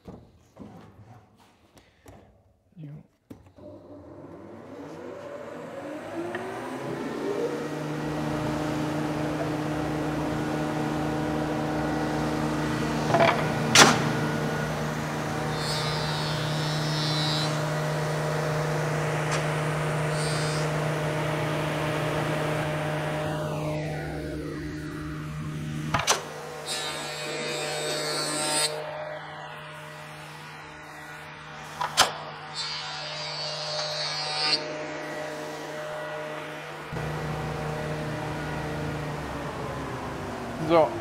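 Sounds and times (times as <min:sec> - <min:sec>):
thickness planer motor humming: 0:03.6 - 0:41.0.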